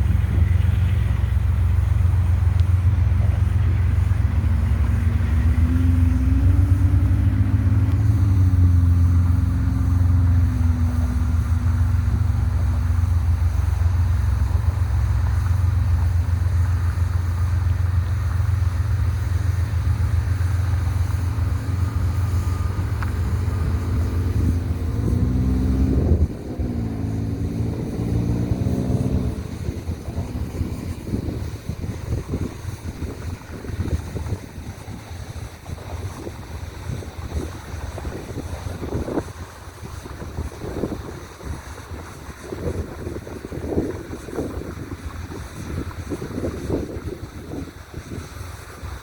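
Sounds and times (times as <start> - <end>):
diesel locomotive engine: 0.0 - 49.0
train rumbling past: 0.0 - 49.0
wind buffeting microphone: 0.0 - 49.0.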